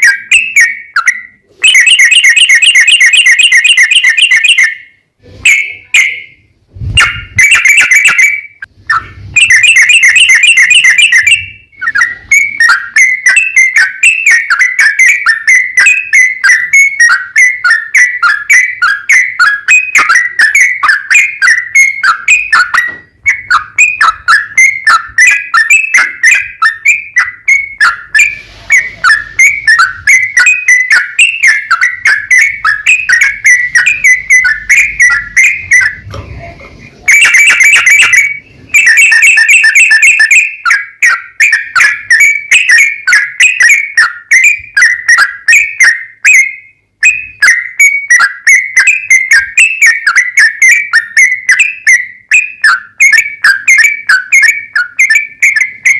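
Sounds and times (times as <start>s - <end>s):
bird singing whistled trills: 0.0s - 55.9s.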